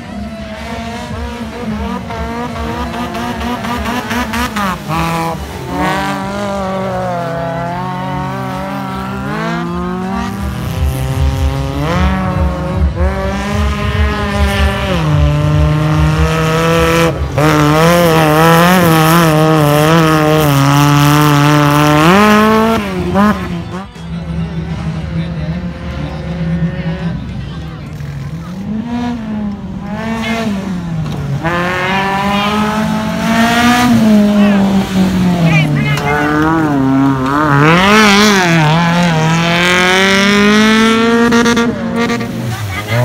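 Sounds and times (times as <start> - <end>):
race car engines revving hard: 0.0 - 43.0.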